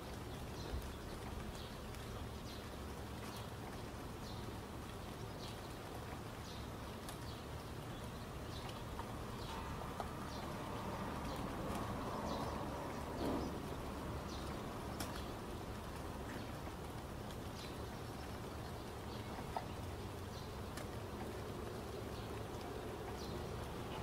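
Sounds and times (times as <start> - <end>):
birds chirping: 0.1 - 24.0.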